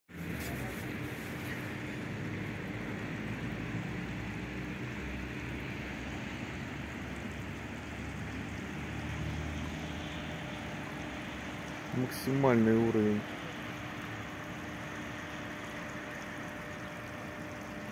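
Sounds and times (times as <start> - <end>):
faint constant hum: 0.1 - 17.9
street traffic rumble: 0.1 - 17.9.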